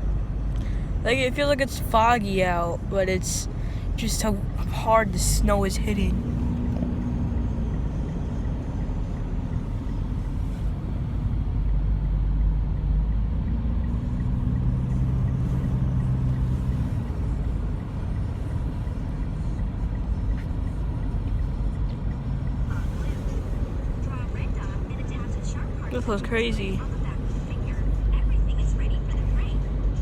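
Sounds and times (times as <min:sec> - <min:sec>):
car engine hum: 0:00.0 - 0:30.0
road noise inside moving car: 0:00.0 - 0:30.0.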